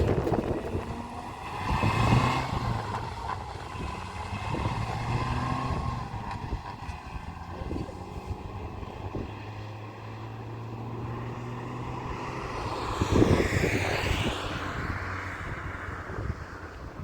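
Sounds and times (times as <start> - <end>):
low engine hum: 0.0 - 17.0
vehicle passing by: 0.0 - 17.0.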